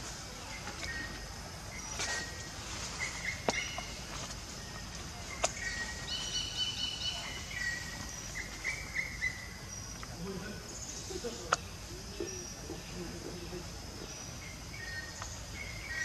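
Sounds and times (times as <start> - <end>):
birds chirping: 0.0 - 16.0
steady background hiss: 0.0 - 16.0.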